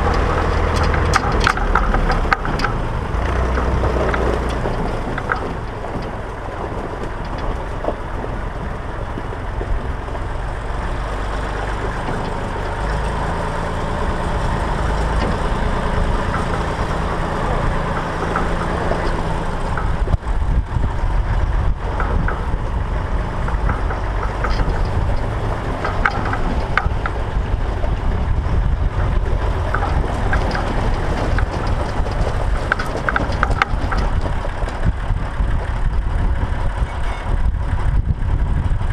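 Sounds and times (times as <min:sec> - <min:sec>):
light rattling clatter: 0:00.0 - 0:38.9
tractor engine running: 0:00.0 - 0:38.9.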